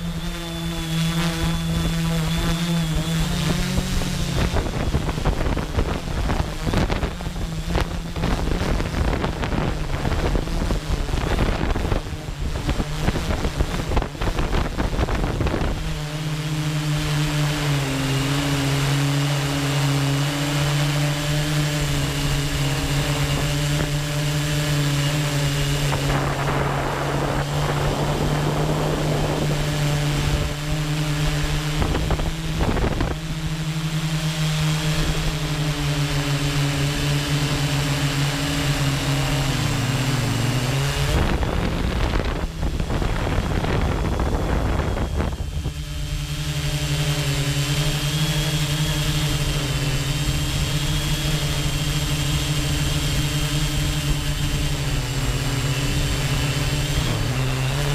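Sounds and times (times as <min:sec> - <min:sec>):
drone propellers humming: 0:00.0 - 0:57.9
wind gusts: 0:00.0 - 0:57.9.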